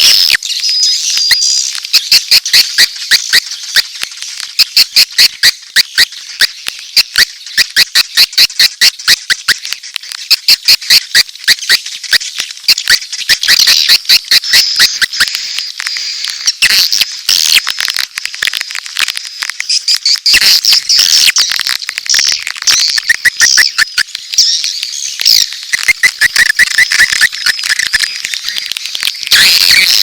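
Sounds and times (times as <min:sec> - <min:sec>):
swiftlets chattering and twittering: 0:00.0 - 0:30.0.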